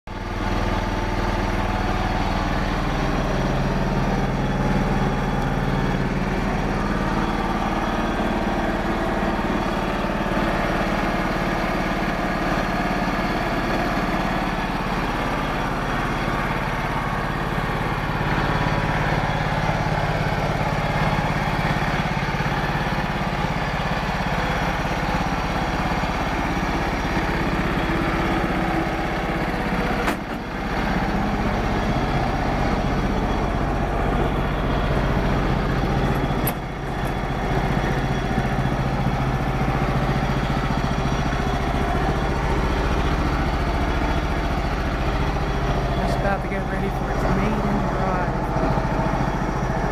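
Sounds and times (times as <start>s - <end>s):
small petrol engine idling: 0.1s - 49.9s.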